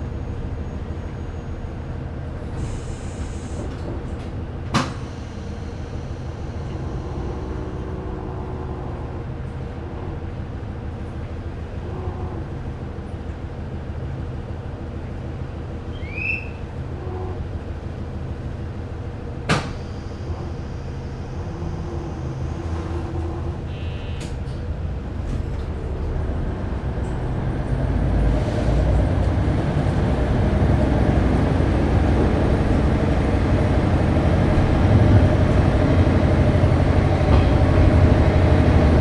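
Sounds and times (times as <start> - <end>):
diesel railcar engine idling: 0.0 - 39.0.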